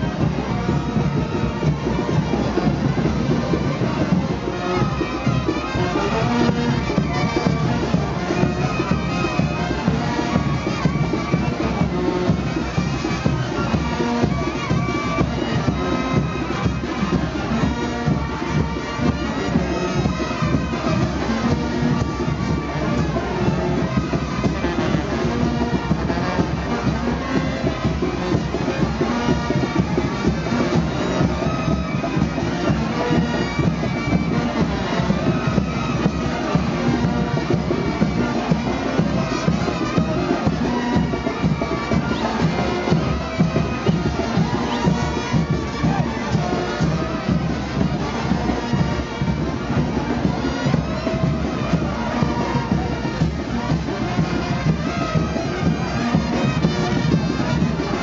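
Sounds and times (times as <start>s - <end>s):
brass band playing dance tune: 0.0s - 58.0s
driving drum beat: 0.0s - 58.0s.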